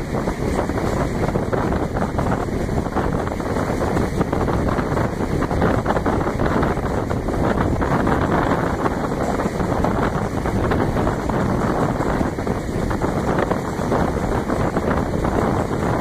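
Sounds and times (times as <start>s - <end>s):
train running noise: 0.0s - 16.0s
wind buffeting microphone: 0.0s - 16.0s.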